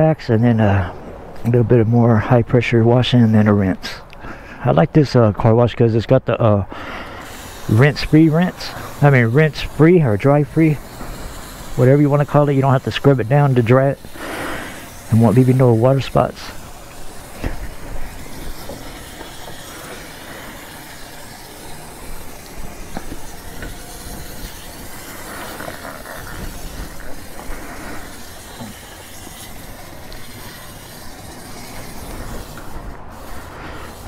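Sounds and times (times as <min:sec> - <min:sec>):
high-pressure water spray hissing: 0:06.7 - 0:34.0.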